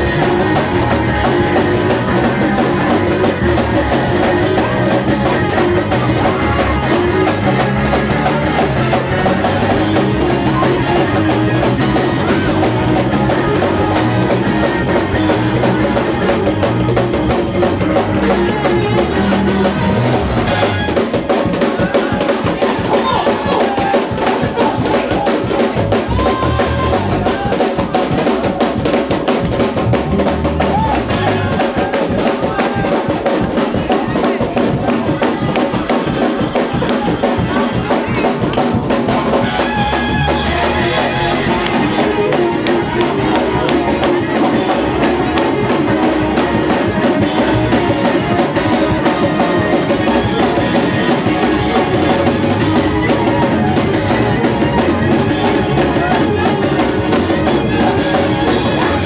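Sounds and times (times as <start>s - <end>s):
bass drum: 0.0s - 59.0s
drum rimshots: 0.0s - 59.0s
live church music: 0.0s - 59.0s.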